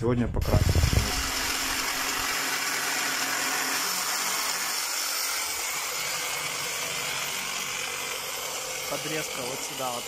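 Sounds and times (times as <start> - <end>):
electric saw cutting wood: 0.4 - 10.0.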